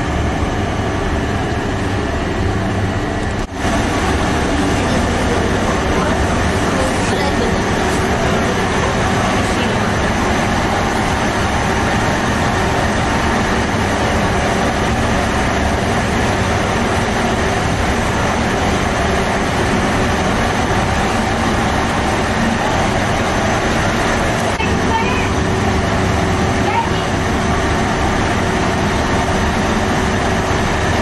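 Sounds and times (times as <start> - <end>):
bakery equipment running: 0.0 - 31.0.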